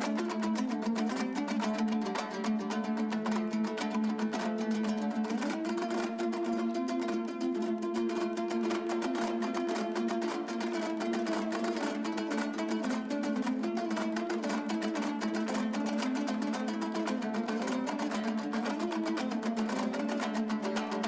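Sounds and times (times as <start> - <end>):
fast plucked string instrument: 0.0 - 21.0.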